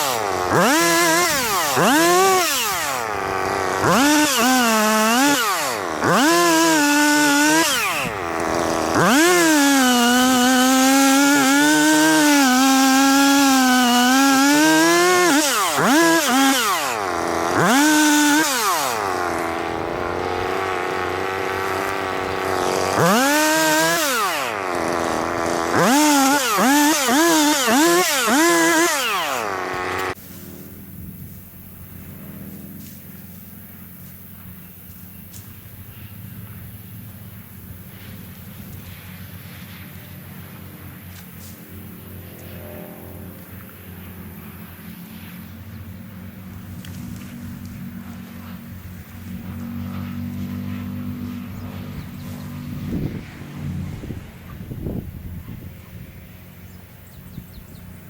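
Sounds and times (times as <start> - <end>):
chainsaw revving and cutting: 0.0 - 31.0, 36.2 - 57.0.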